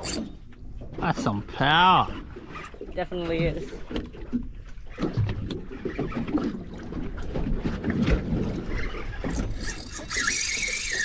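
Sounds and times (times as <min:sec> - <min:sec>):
water slapping boat hull: 0:00.0 - 0:11.0.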